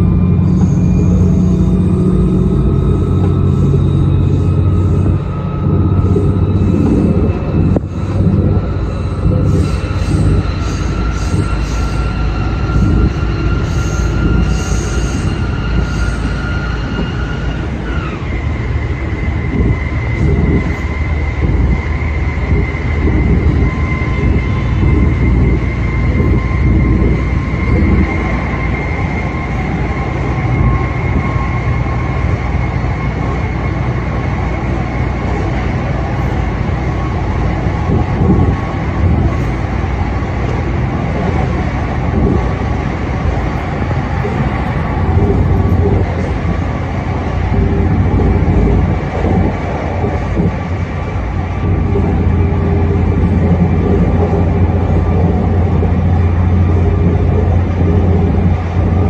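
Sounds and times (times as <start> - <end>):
high whine: 0.0 - 59.0
train engine and wheels rumbling: 0.0 - 59.0.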